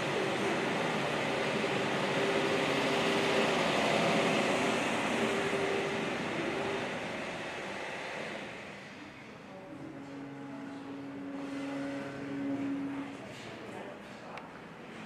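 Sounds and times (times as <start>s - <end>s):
steady mechanical noise: 0.0s - 15.0s.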